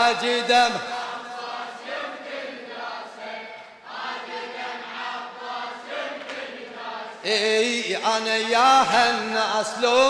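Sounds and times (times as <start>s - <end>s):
crowd chanting in unison: 0.0s - 10.0s.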